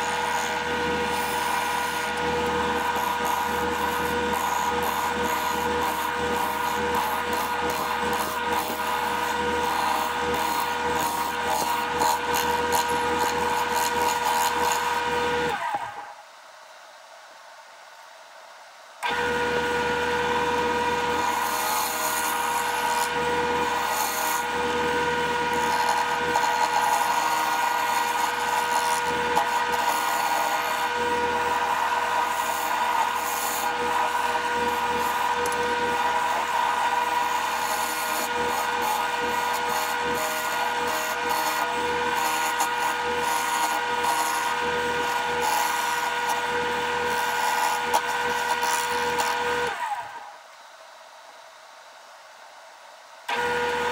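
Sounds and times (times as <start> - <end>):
turning tool scraping wood: 0.0 - 16.0, 19.0 - 50.1, 53.3 - 53.9
wood lathe humming: 0.0 - 16.2, 19.0 - 50.5, 53.3 - 53.9.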